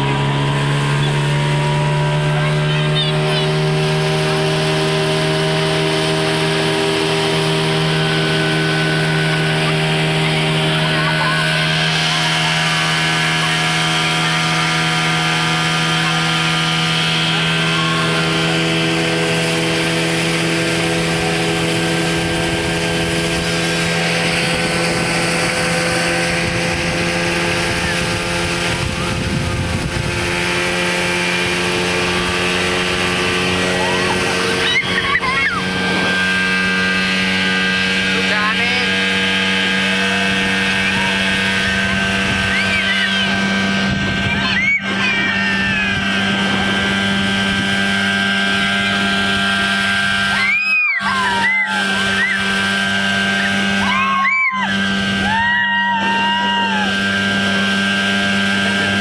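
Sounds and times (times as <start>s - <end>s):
speedboat engine at high revs: 0.0s - 59.0s
water and wind rushing: 0.0s - 59.0s.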